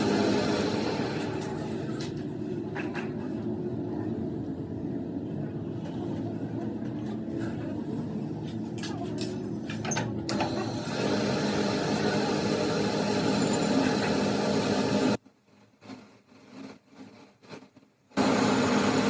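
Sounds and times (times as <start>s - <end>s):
workshop machinery humming: 0.0s - 15.3s, 18.1s - 19.0s.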